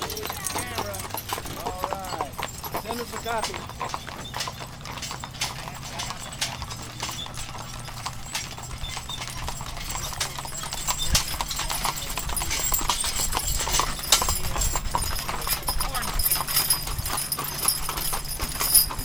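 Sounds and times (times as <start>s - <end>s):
hooves clip-clopping on asphalt: 0.0s - 19.0s.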